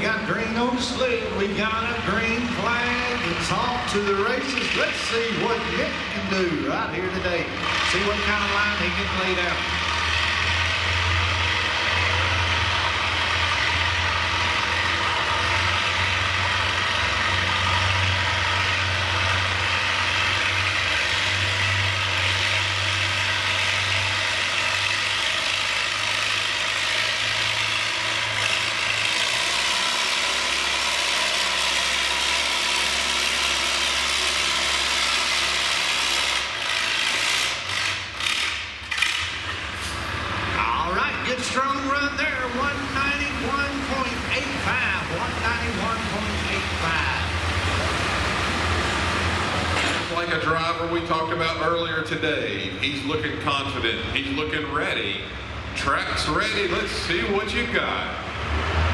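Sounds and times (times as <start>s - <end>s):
tractor engine droning under load: 0.0s - 58.9s.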